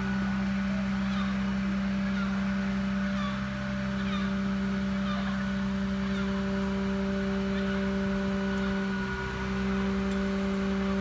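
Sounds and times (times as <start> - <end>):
truck engine droning: 0.0 - 11.0
short falling bird calls: 0.8 - 10.5.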